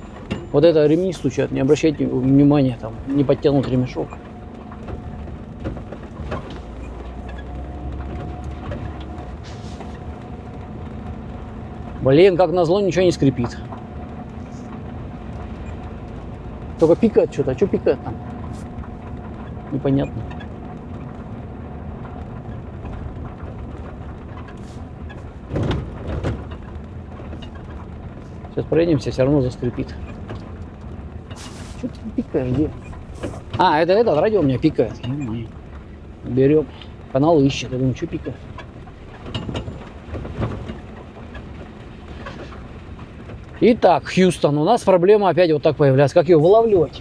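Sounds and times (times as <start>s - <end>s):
engine and tyre rumble: 0.0s - 47.0s.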